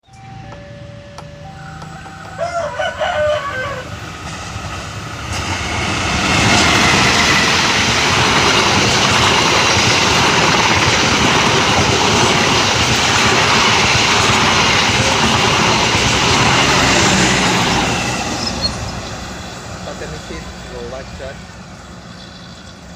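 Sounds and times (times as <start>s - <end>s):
train passing at speed: 0.1s - 22.9s.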